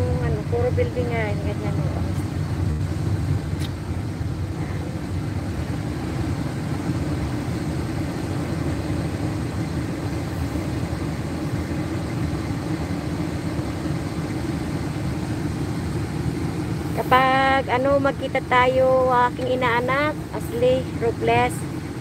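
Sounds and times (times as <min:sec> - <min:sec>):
engine and tyre rumble: 0:00.0 - 0:22.0.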